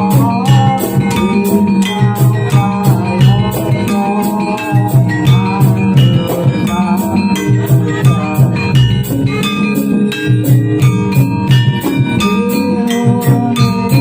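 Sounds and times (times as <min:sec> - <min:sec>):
crisp ticking beat: 0:00.0 - 0:14.0
metallophone notes ringing: 0:00.0 - 0:14.0.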